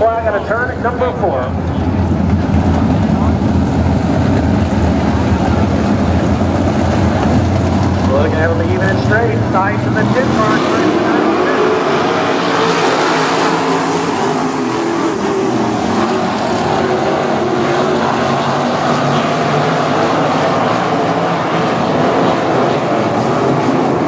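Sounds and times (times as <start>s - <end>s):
race car engines at full throttle: 0.0s - 24.0s.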